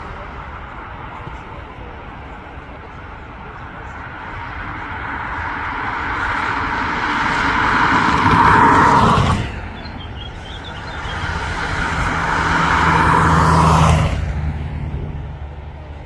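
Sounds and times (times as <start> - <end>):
low engine hum: 0.0 - 16.0
vehicle tyre and road noise: 0.0 - 16.0.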